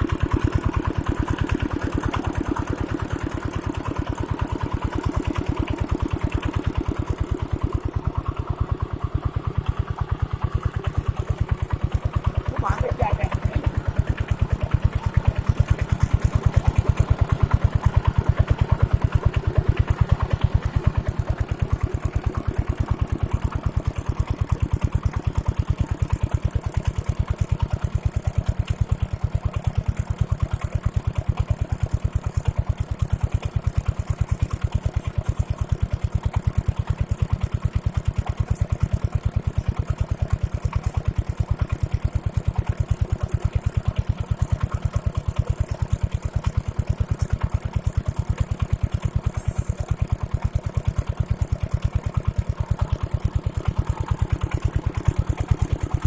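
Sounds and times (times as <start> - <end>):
water pump engine running: 0.0 - 56.0.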